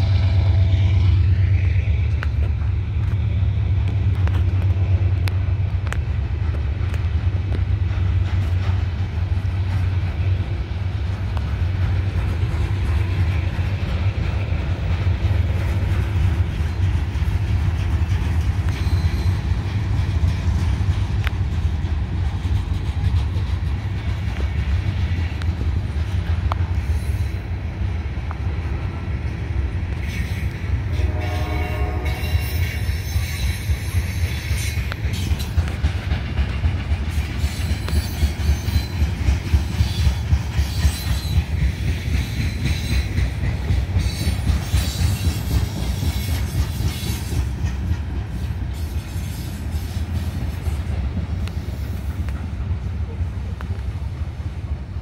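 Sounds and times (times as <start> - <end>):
train cars rumbling past: 0.0 - 55.0
wheels clicking on rail: 0.0 - 55.0.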